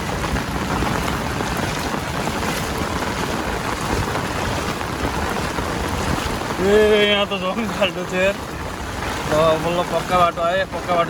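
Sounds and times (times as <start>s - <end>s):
floodwater rushing: 0.0s - 11.0s
rain falling: 0.0s - 11.0s
wind buffeting microphone: 0.0s - 11.0s.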